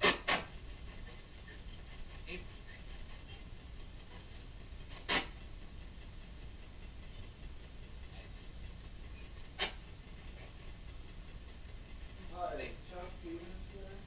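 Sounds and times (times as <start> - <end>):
faint ticking: 0.0 - 14.0
low steady hum: 0.0 - 14.0.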